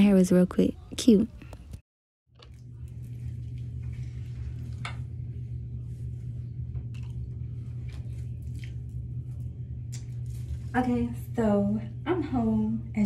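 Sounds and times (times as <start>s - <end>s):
bathroom ventilation fan hum: 0.0s - 13.0s.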